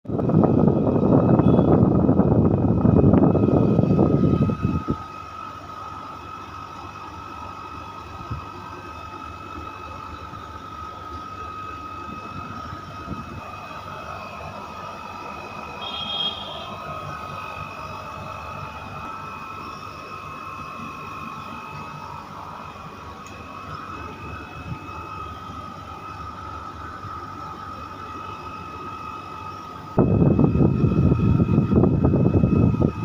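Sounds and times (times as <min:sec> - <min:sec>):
air conditioner humming: 0:00.1 - 0:33.0.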